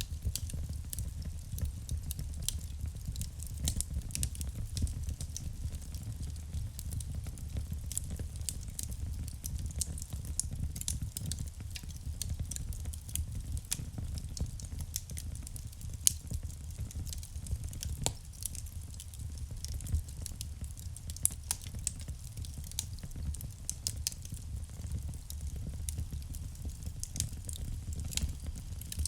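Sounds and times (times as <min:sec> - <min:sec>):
low rumble of flames: 0:00.0 - 0:29.0
wood crackling and popping: 0:00.0 - 0:29.0.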